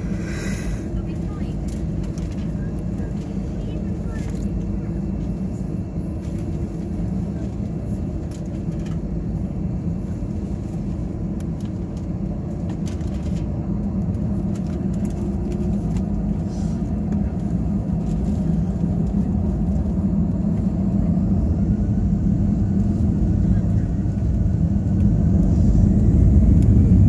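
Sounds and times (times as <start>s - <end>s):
airplane cabin rumble taxiing: 0.0s - 27.0s.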